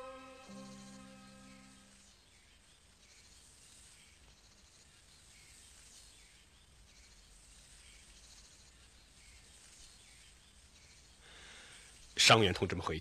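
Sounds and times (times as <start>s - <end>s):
insects chirping in trills: 0.0s - 5.3s, 6.8s - 12.2s.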